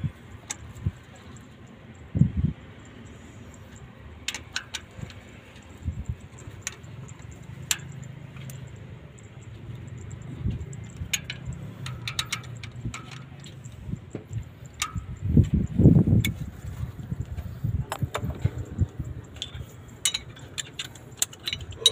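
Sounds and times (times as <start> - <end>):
metal tools clinking: 2.8 - 21.9.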